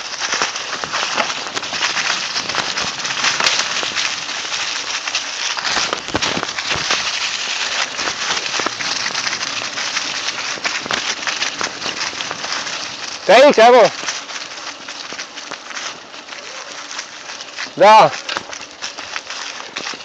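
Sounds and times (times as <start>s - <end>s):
bike tyres rolling over dry leaves: 0.0s - 20.0s.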